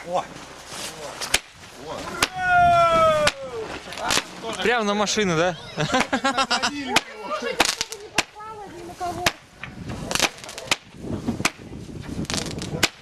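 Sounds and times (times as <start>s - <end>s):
fireworks cracking: 0.4s - 13.0s.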